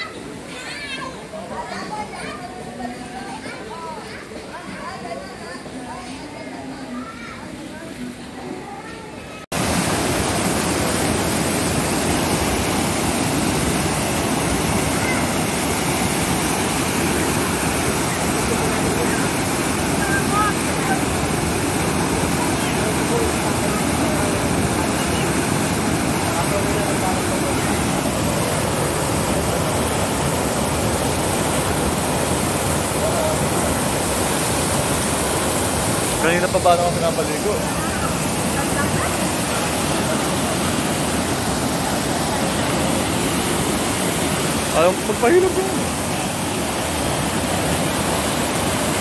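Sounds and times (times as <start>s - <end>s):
water pouring and splashing: 9.5s - 49.0s.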